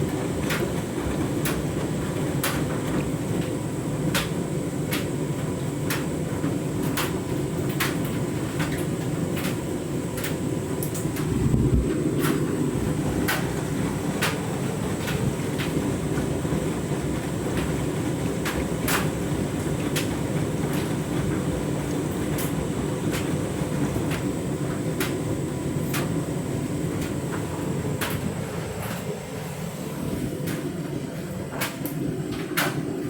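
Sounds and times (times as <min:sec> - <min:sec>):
washing machine drum rumbling: 0:00.0 - 0:33.0.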